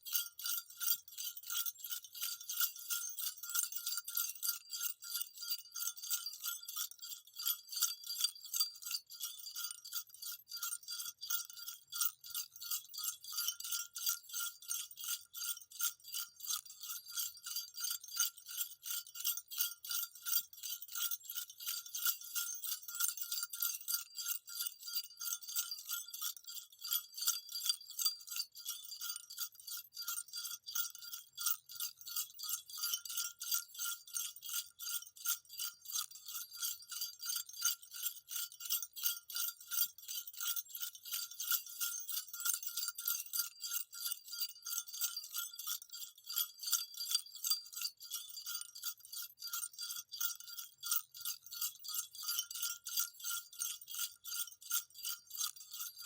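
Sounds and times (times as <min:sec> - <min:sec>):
jingle bells shaken: 0:00.0 - 0:56.0.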